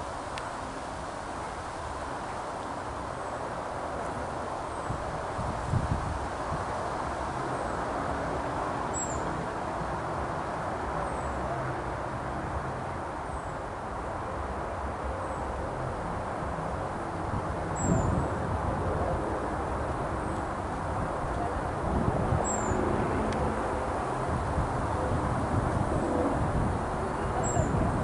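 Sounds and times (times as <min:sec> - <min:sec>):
outdoor background rumble: 0:00.0 - 0:28.0.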